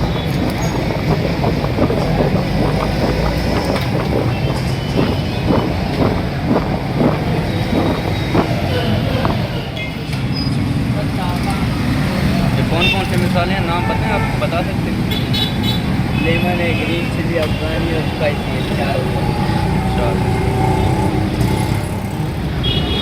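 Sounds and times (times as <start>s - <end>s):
street traffic din: 0.0s - 23.0s.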